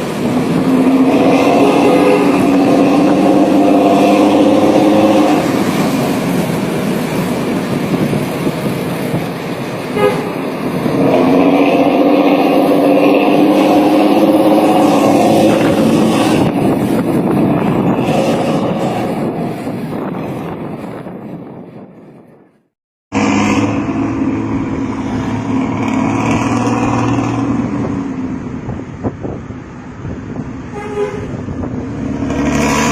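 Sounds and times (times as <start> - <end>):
bus exhaust growling drone: 0.0 - 32.9.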